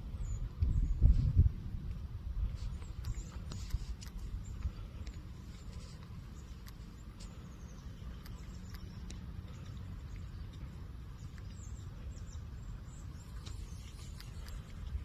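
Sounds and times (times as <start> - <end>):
wind rumble on microphone: 0.0 - 15.0
faint bird chirps: 2.6 - 15.0.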